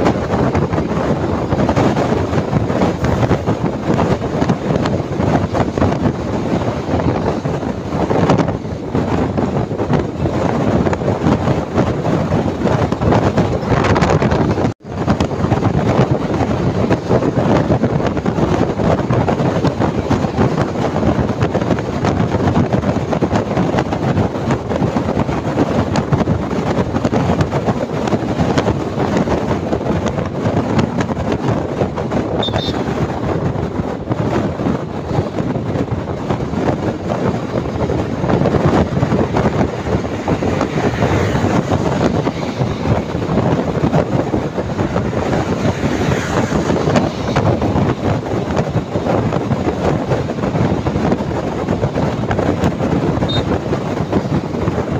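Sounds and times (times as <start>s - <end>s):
bus road and engine noise: 0.0s - 54.9s
wind buffeting microphone: 0.0s - 54.9s.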